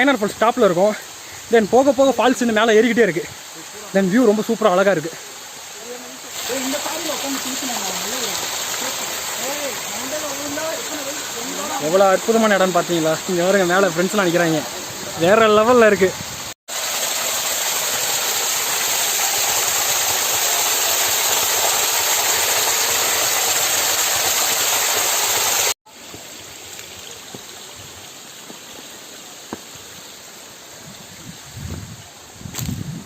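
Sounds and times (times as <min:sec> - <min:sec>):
waterfall rushing: 0:00.0 - 0:30.8
quiet rush of water: 0:00.0 - 0:32.7.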